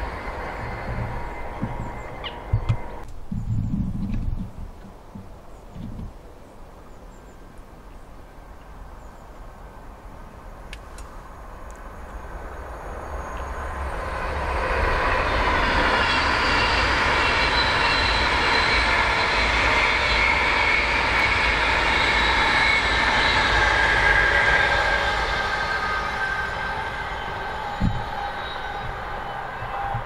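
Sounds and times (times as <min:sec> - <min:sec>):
train passing with rushing noise: 0:00.0 - 0:04.5, 0:09.8 - 0:30.0
faint whine: 0:00.0 - 0:07.6, 0:10.0 - 0:30.0.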